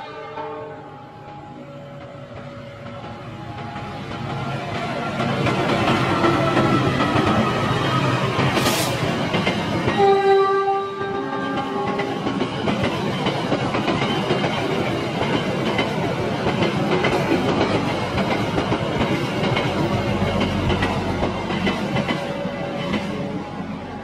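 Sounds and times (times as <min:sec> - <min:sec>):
train wheels clattering: 0:01.2 - 0:10.4, 0:11.4 - 0:24.0.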